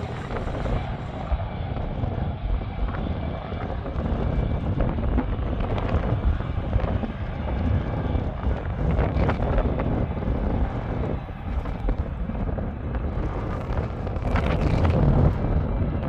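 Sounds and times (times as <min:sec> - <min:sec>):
jet engines rumbling: 0:00.0 - 0:16.0
wind buffeting microphone: 0:00.0 - 0:16.0.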